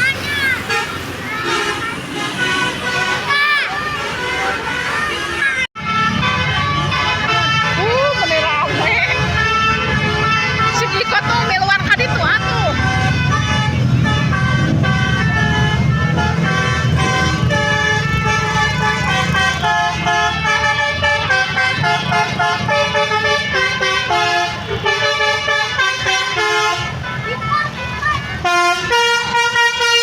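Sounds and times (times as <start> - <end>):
bus horn playing a melody: 0.5 - 30.0.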